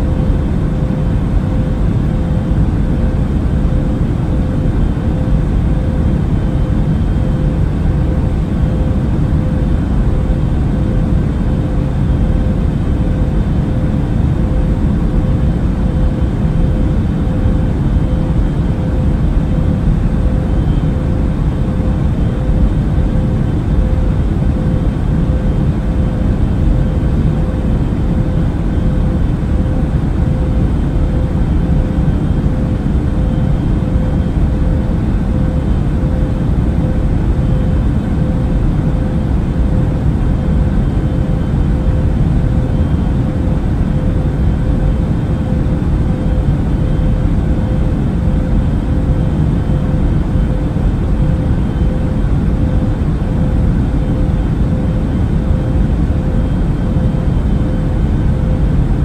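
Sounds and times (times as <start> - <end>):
airliner engine drone: 0.0 - 59.0.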